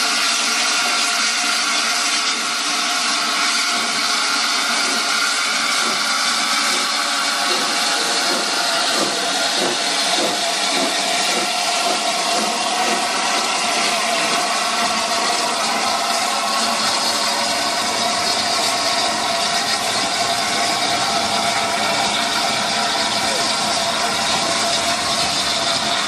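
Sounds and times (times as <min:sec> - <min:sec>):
steam hissing from safety valves: 0:00.0 - 0:26.0.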